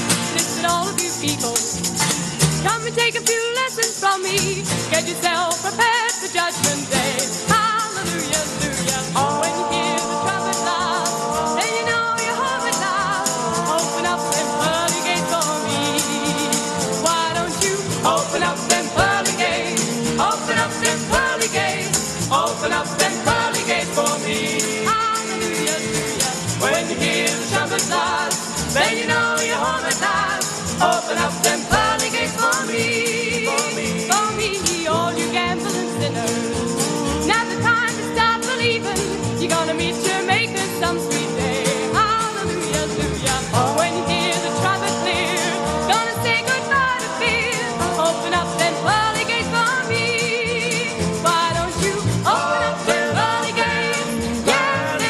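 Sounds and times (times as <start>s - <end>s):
woman singing: 0.0s - 2.0s, 2.6s - 55.0s
plucked double bass: 0.0s - 55.0s
strummed acoustic guitars: 0.0s - 55.0s
tambourine shaking: 0.0s - 55.0s.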